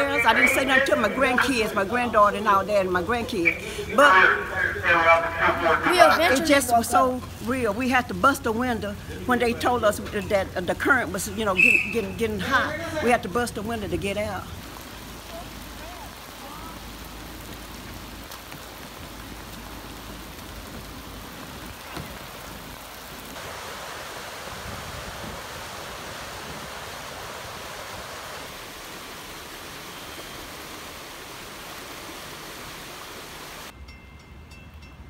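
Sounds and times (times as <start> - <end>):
heavy rain or rushing water: 0.0 - 33.8.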